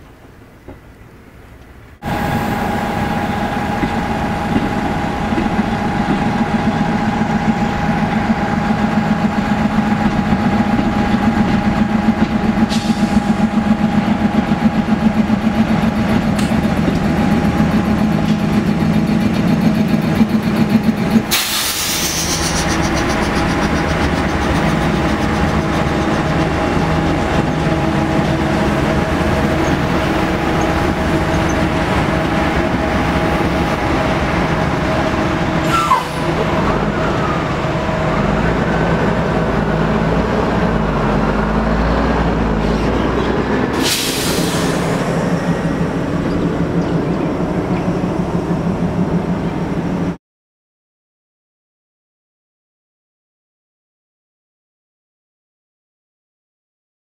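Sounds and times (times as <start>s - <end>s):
diesel locomotives passing: 0.0s - 50.2s.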